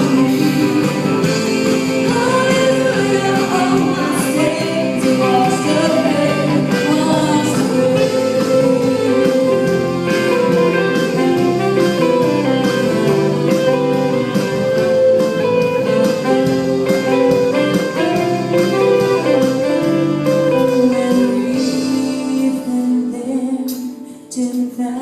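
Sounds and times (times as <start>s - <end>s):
church band playing instrumental: 0.0s - 23.0s.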